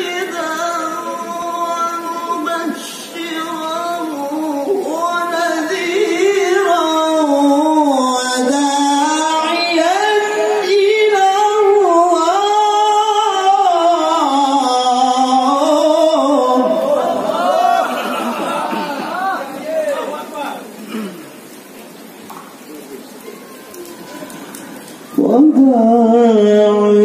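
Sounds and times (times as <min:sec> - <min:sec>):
man chanting through a microphone: 0:00.0 - 0:20.7, 0:25.1 - 0:27.0.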